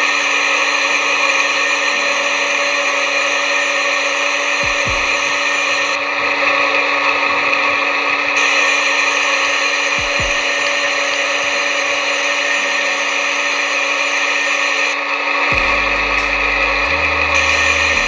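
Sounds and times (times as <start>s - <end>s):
lathe machine whir: 0.0s - 18.0s.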